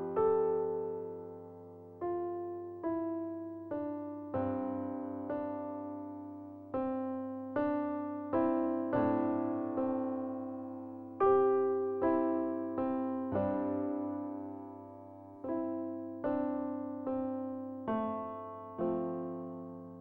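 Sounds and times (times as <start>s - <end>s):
slow electric piano notes: 0.0s - 20.0s.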